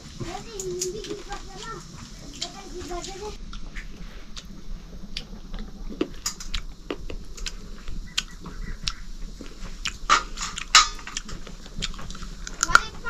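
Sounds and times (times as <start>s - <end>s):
chewing: 0.2s - 13.0s.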